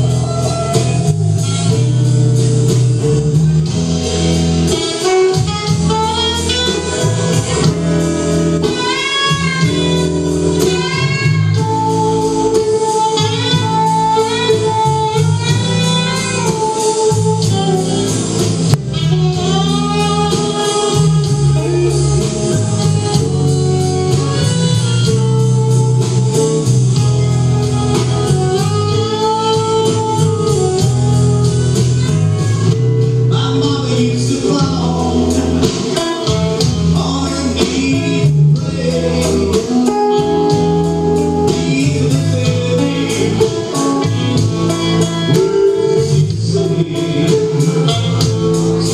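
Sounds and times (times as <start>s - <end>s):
bass line: 0.0s - 48.9s
guitar: 0.0s - 48.9s
live band playing: 0.0s - 48.9s
person singing: 8.6s - 26.7s, 27.5s - 48.9s.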